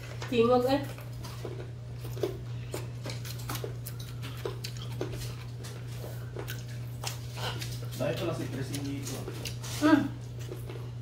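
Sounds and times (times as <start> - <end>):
children eating clicks and smacks: 0.0 - 11.0
steady low hum: 0.0 - 11.0.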